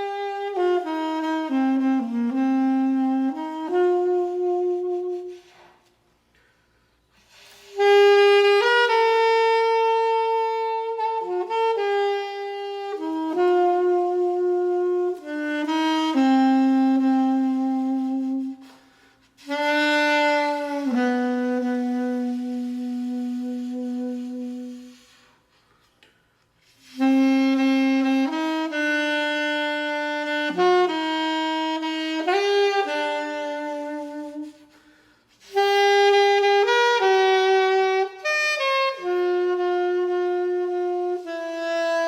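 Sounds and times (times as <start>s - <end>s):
solo saxophone melody: 0.0s - 42.0s.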